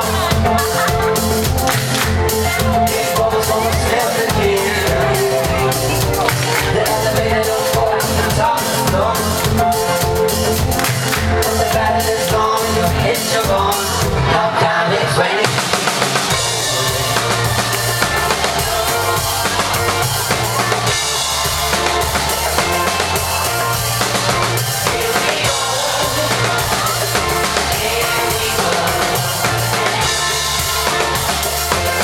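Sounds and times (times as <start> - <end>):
drum kit beat: 0.0 - 14.3, 15.4 - 32.0
live band playing pop-rock: 0.0 - 32.0.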